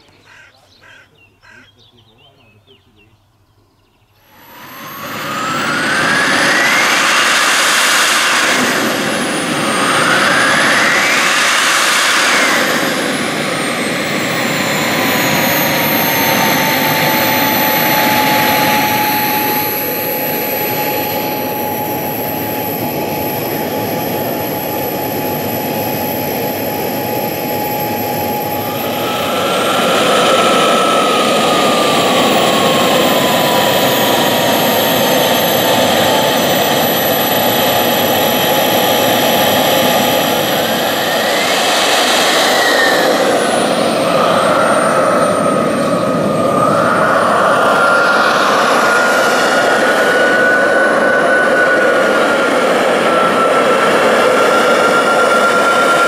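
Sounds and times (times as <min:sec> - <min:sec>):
model jet turbine whine: 0:04.2 - 0:56.0.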